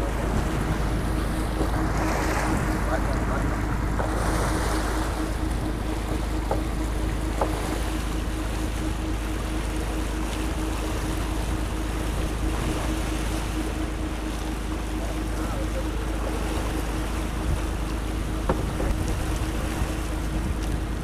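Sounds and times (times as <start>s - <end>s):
boat engine running: 0.0s - 21.0s
sea noise: 0.0s - 21.0s
wind: 0.0s - 21.0s.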